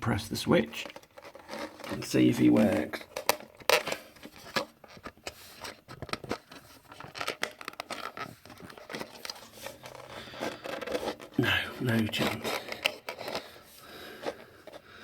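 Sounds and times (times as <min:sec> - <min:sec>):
plastic toy clicks and rustling: 0:00.6 - 0:13.6.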